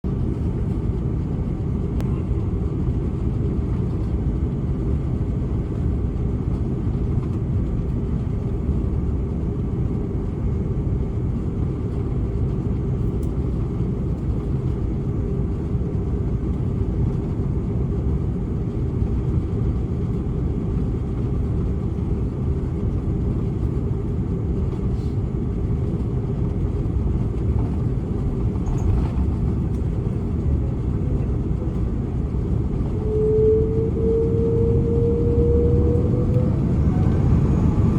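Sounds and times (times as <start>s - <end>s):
airplane cabin low rumble: 0.0s - 37.9s.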